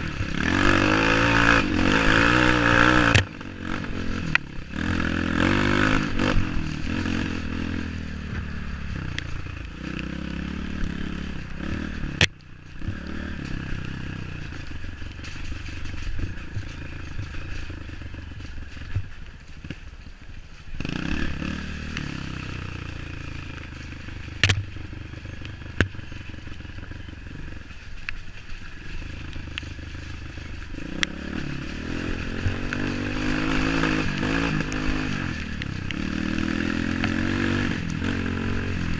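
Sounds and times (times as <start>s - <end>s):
knocks and clatter over rough ground: 0.0s - 38.9s
motorcycle engine revving: 0.0s - 38.9s.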